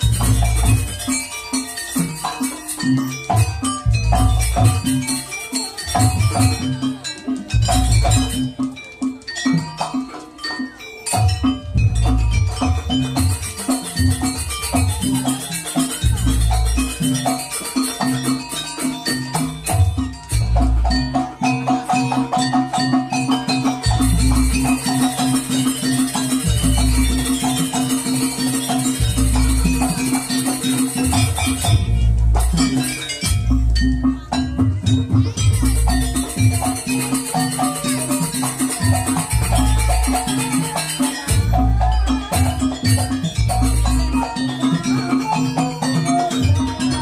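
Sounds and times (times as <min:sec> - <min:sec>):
hand drums booming: 0:00.0 - 0:01.2, 0:02.8 - 0:09.9, 0:11.2 - 0:47.0
metallophones struck: 0:00.0 - 0:47.0.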